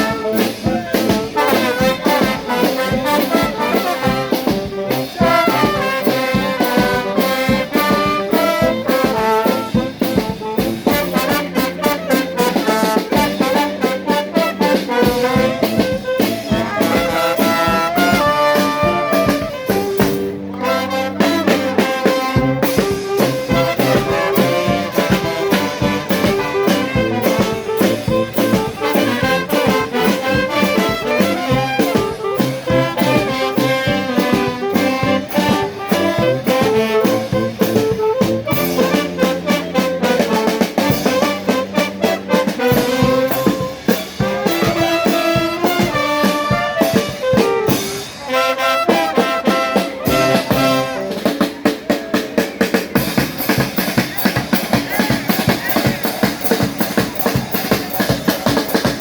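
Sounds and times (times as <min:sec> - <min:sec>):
steady drum beat: 0:00.0 - 0:59.0
trumpets and trombones: 0:00.0 - 0:59.0.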